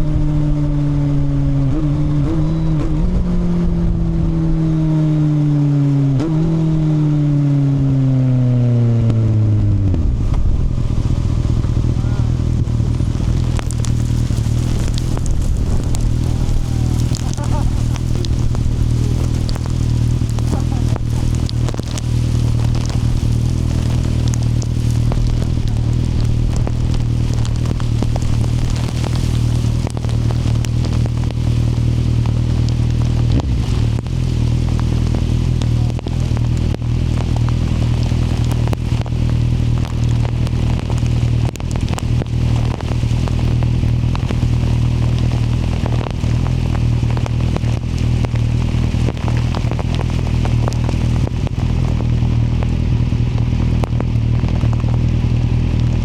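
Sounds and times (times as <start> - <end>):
motorcycle engine cruising: 0.0 - 56.0
rain spattering: 9.4 - 56.0.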